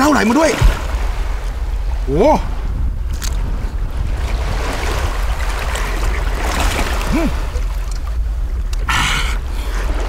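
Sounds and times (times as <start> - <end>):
surf: 0.0 - 10.0
wind on microphone: 0.0 - 10.0.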